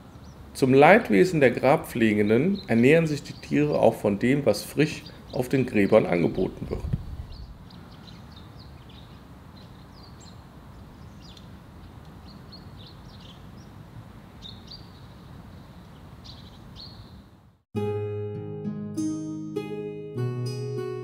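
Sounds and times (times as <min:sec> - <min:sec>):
small birds chirping: 0:00.0 - 0:01.0, 0:01.6 - 0:17.6.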